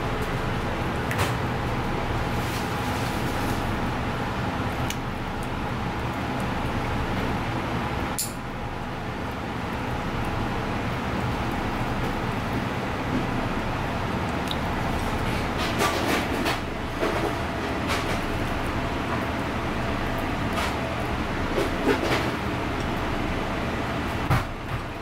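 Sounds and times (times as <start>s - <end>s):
low background rumble with hum: 0.0s - 25.0s.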